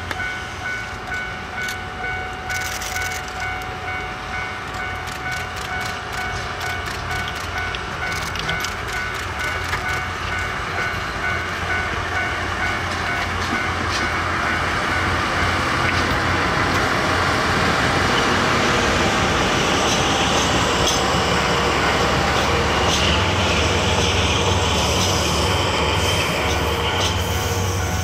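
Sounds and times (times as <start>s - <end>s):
diesel train engine drone: 0.0s - 28.0s
train wheels on rails: 0.0s - 28.0s.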